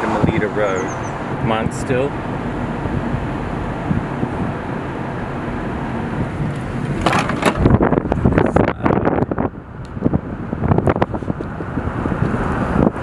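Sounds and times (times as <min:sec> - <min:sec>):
car road and engine noise: 0:00.0 - 0:13.0
wind buffeting microphone: 0:00.0 - 0:13.0.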